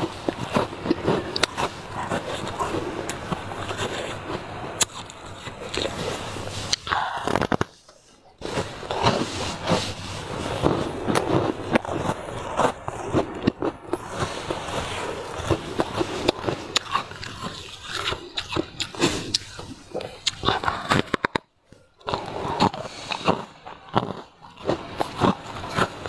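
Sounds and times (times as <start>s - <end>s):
crunching and chewing ice: 0.0s - 26.0s.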